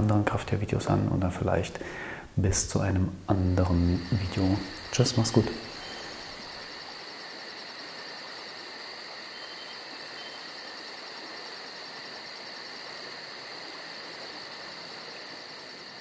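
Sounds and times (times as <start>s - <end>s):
crickets chirping: 1.7s - 16.0s.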